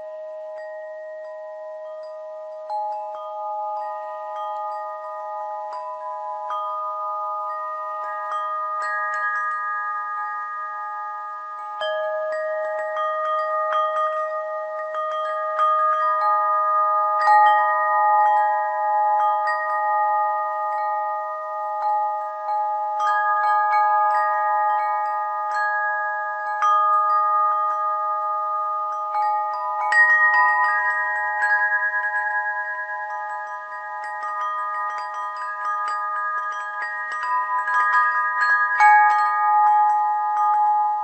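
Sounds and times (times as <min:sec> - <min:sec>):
low sustained tone: 0:00.0 - 0:41.0.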